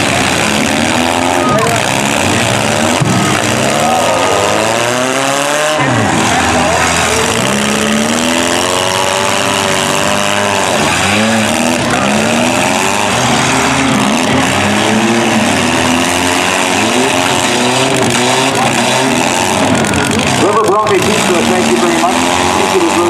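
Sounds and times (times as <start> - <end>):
car engines revving: 0.0 - 23.0
cars ramming: 0.0 - 23.0
wheels spinning: 0.0 - 23.0.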